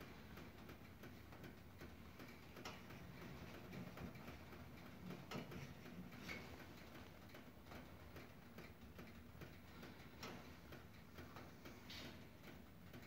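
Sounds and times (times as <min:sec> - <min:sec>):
faint ticks: 0:00.0 - 0:13.0.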